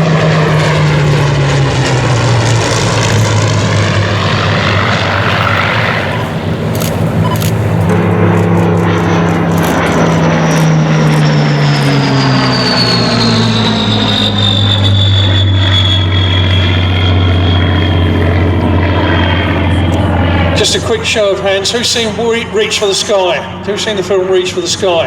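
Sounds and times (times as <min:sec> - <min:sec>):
high whine gliding down: 0:00.0 - 0:24.6
propeller plane flypast: 0:00.0 - 0:25.0.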